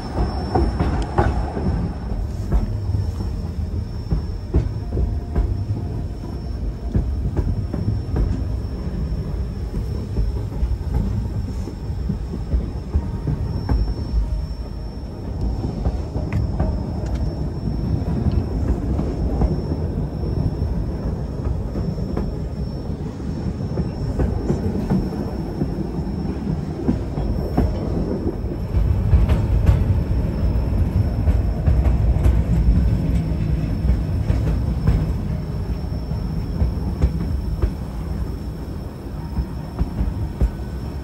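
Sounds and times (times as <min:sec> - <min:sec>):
faint high whine: 0:00.0 - 0:41.0
train wheels rumbling on rails: 0:00.0 - 0:41.0.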